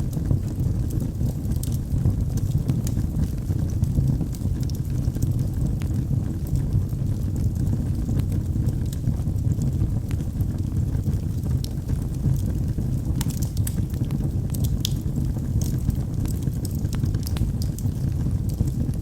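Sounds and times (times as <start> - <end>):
fire rumbling: 0.0 - 19.0
wood crackling and popping: 0.0 - 19.0.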